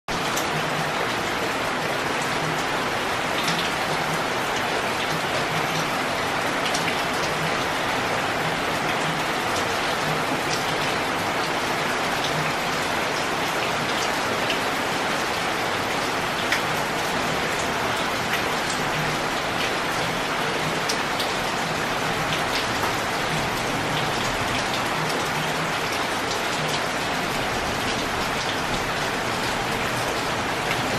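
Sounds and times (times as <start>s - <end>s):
steady rain: 0.1s - 30.9s.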